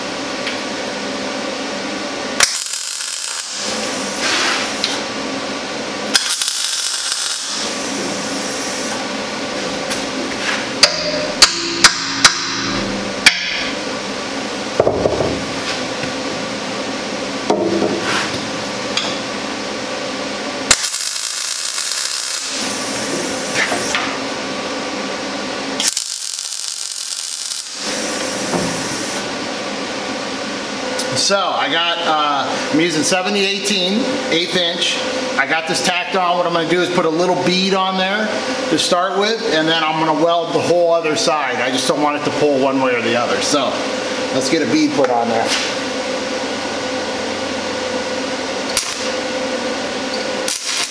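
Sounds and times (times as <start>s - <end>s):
steady shop hum: 0.0s - 50.9s.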